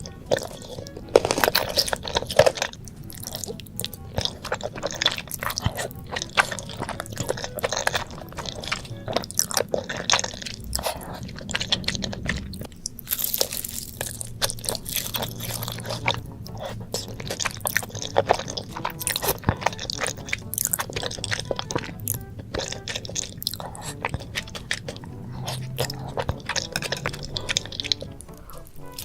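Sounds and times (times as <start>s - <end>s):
person crunching and chewing food: 0.0s - 29.0s.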